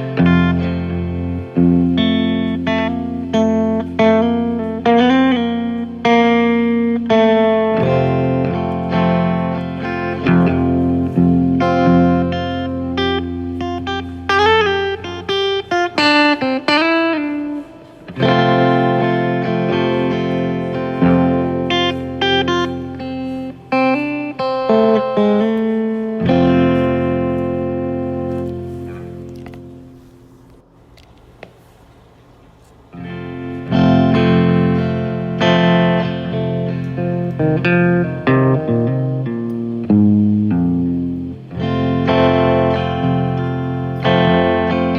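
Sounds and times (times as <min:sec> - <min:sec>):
guitar plucked notes: 0:00.0 - 0:30.3, 0:32.9 - 0:44.9.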